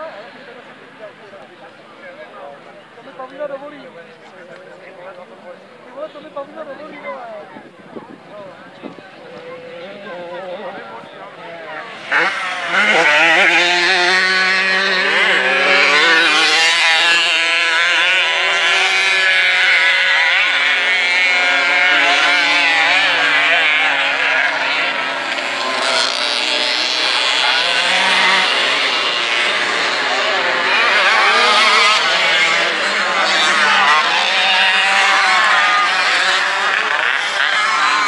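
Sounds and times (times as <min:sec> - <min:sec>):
motocross engines racing: 0:00.0 - 0:38.0.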